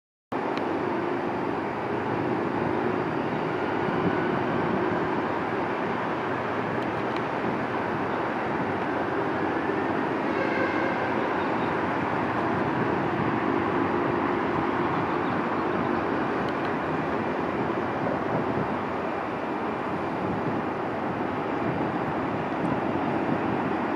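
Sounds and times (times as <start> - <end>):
jet engines at takeoff power: 0.3 - 23.9.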